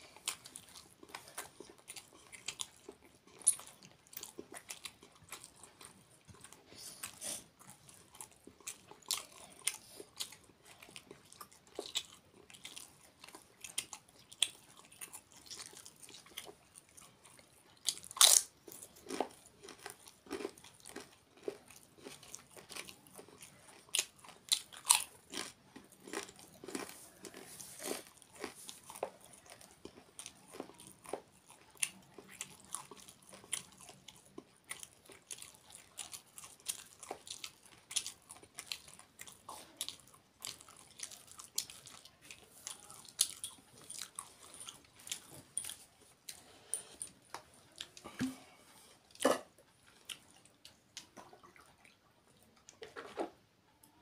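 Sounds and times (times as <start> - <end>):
man chewing: 0.1 - 52.0.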